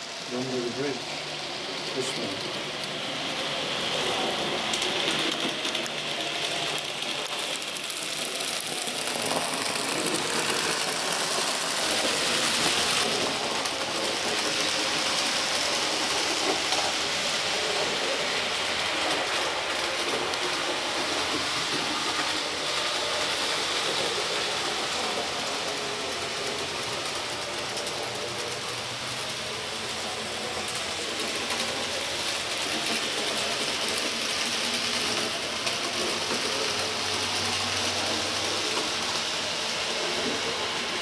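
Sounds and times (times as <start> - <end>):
model train running on track: 0.0 - 41.0.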